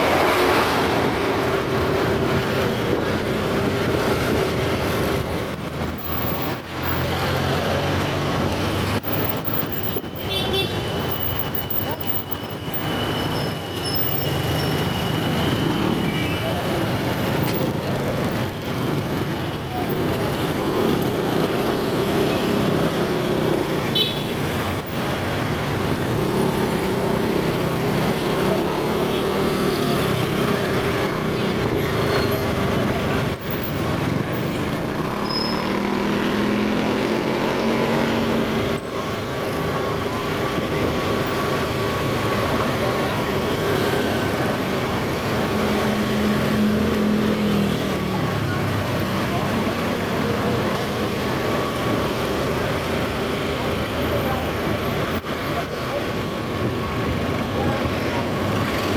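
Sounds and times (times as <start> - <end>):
road and traffic noise: 0.0 - 58.9.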